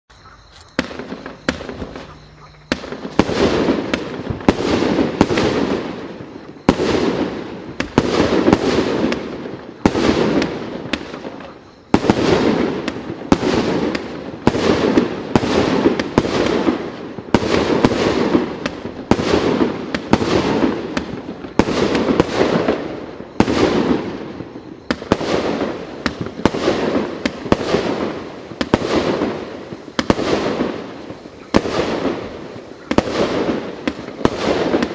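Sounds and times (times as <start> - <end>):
firework battery shots and bursts: 0.5 - 34.9.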